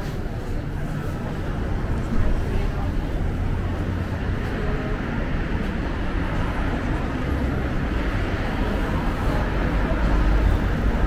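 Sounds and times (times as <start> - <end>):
deep traffic rumble: 0.0 - 11.0.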